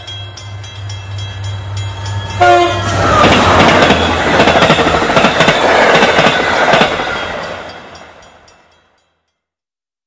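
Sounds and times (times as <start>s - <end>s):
train wheels clattering on rails: 0.0s - 8.4s
train rumble: 0.0s - 8.8s.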